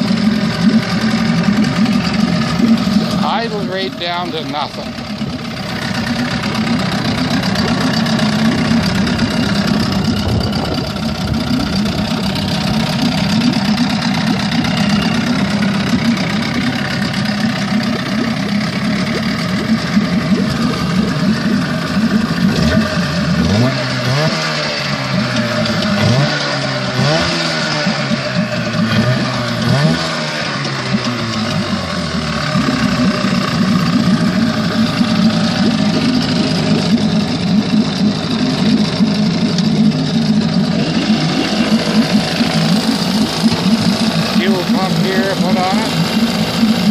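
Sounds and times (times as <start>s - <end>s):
outboard motor idling and revving: 0.0s - 46.9s.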